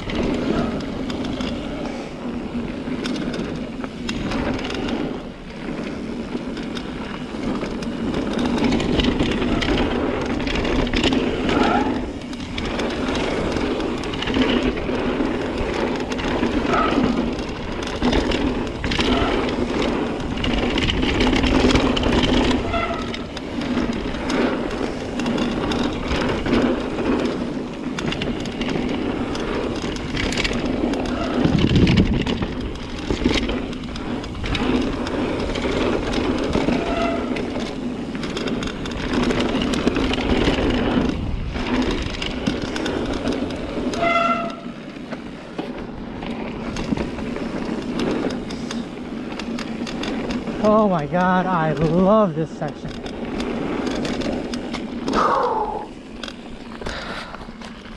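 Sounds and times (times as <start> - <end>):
bike gear rattling and clicking: 0.0 - 57.9
tyres rumbling on dirt: 0.0 - 57.9.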